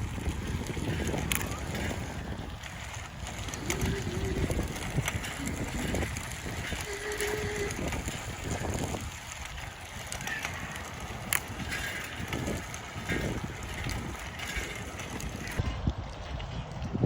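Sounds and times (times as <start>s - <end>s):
bicycle road noise: 0.0s - 17.0s
wind rumbling on microphone: 0.0s - 17.0s.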